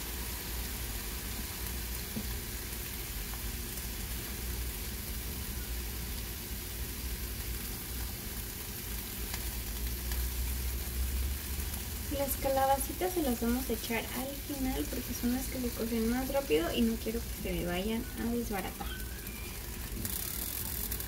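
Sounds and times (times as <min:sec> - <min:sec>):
broth bubbling in a pot: 0:00.0 - 0:21.0.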